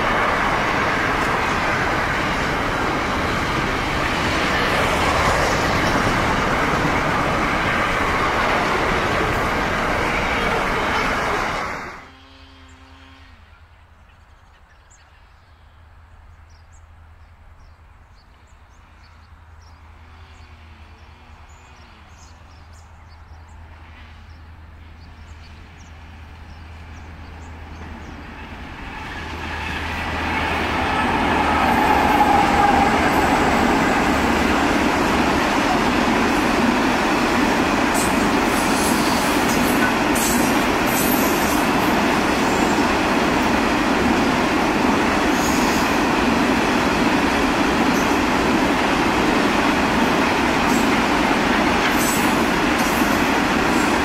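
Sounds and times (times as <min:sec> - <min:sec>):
diesel locomotives passing: 0:00.0 - 0:54.0
wheels rumbling on rail: 0:00.0 - 0:54.0.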